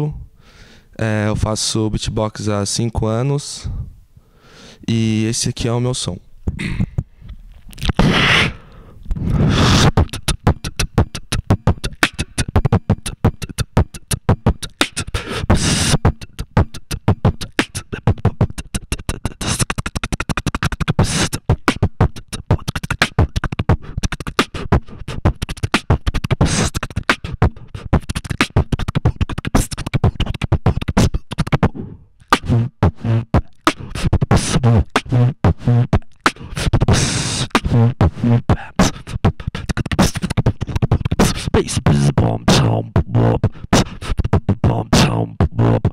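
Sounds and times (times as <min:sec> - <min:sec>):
person beatboxing into microphone: 0:00.0 - 0:04.0, 0:04.6 - 0:45.9.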